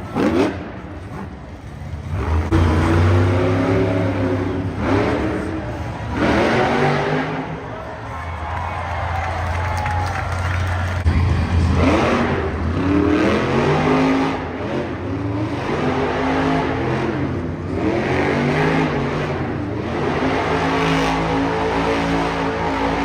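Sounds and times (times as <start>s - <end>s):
monster truck engine revving: 0.0s - 8.4s, 9.2s - 23.0s.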